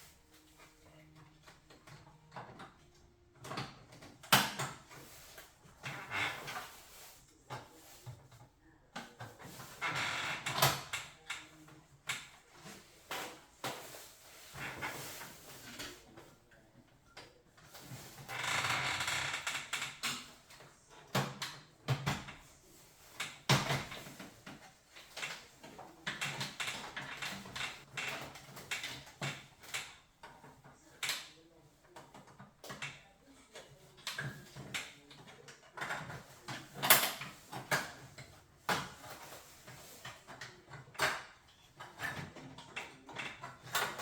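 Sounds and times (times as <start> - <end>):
clicks and knocks on plastic and metal: 0.6 - 44.0.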